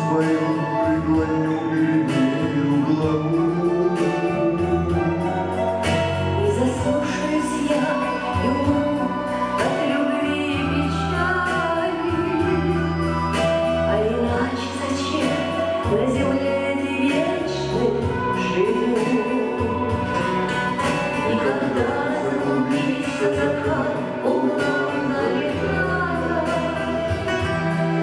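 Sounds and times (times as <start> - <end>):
acoustic guitar: 0.0 - 28.0
person singing slow song: 0.0 - 28.0.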